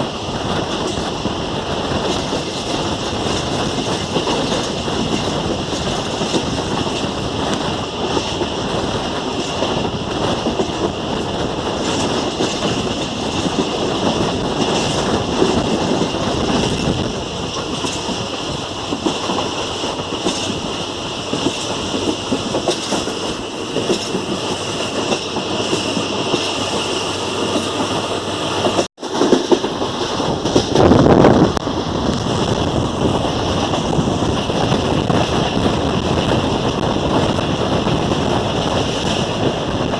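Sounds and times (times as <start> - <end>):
train running noise rush: 0.0 - 39.9
train wheels clattering over rail joints: 0.0 - 39.9.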